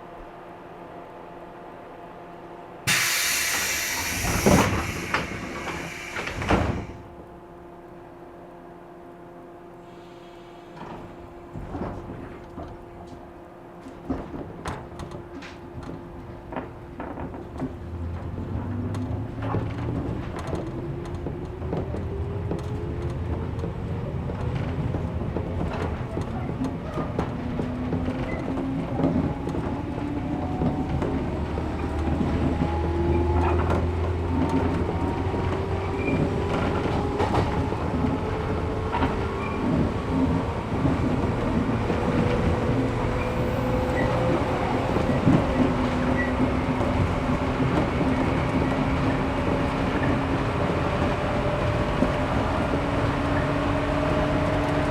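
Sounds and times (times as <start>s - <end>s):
train low rumble: 0.0s - 54.9s.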